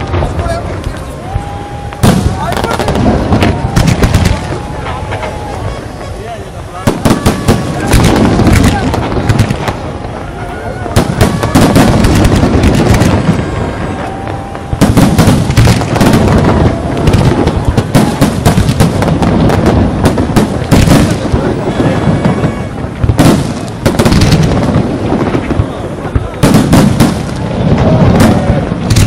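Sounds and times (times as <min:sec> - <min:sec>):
fireworks bangs and booms: 0:00.0 - 0:29.0.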